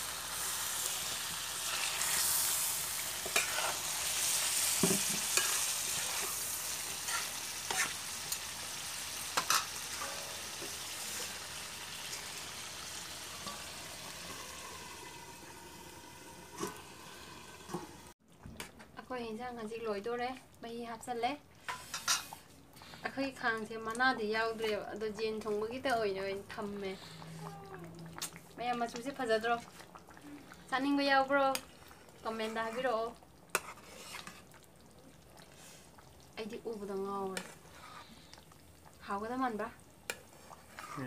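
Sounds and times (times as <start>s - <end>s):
curry sizzling in a metal pot: 0.0s - 18.2s, 19.0s - 41.0s.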